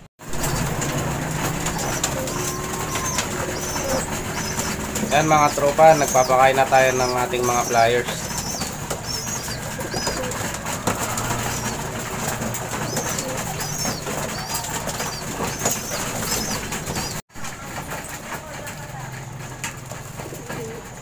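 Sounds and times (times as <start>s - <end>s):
pigeons pecking: 0.2s - 21.0s
pigeons cooing: 0.3s - 17.2s, 19.6s - 21.0s.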